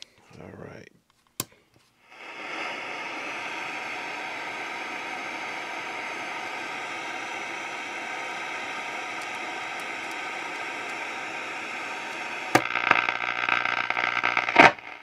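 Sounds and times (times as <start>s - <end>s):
radio static hiss: 2.0s - 15.0s.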